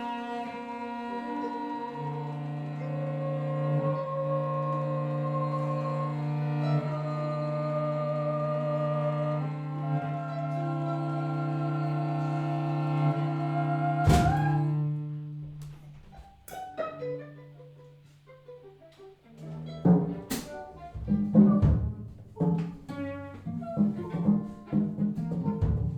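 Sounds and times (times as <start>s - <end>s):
bowed strings long notes: 0.0s - 25.9s.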